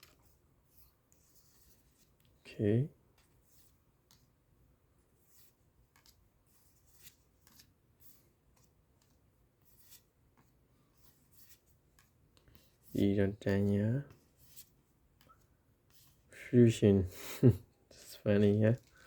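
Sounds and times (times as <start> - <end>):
trading cards flicking and scraping: 0.0 - 2.4, 3.0 - 16.3, 17.9 - 19.0.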